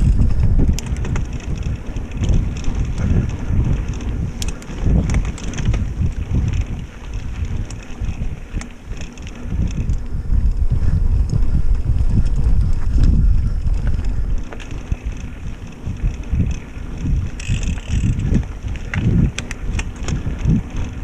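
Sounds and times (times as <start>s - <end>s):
bike tyre rumble on dirt: 0.0s - 21.0s
wind buffeting microphone: 0.0s - 21.0s.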